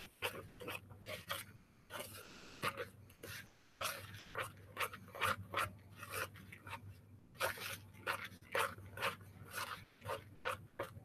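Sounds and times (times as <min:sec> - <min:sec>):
spoon scraping plastic bowl: 0:00.0 - 0:11.0.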